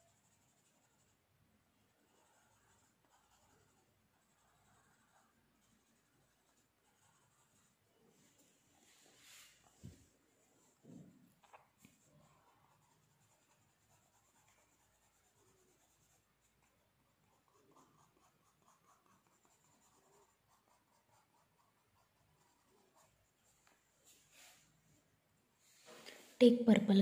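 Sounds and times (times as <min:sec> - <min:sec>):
pencil scratching on paper: 0:00.0 - 0:24.7.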